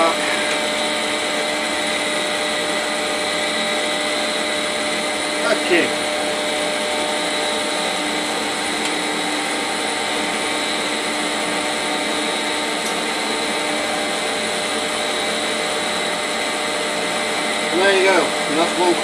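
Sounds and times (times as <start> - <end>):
computer cooling fans whirring: 0.0 - 19.0
constant hum tones: 0.0 - 19.0.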